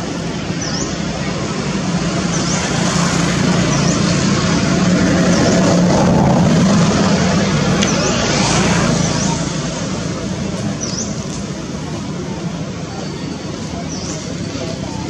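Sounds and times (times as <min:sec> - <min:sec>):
engine droning: 0:00.0 - 0:15.0
traffic noise: 0:00.0 - 0:15.0.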